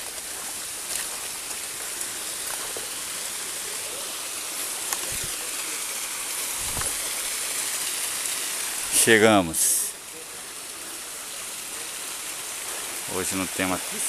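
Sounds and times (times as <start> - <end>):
forest stream and waterfall rushing: 0.0 - 14.0.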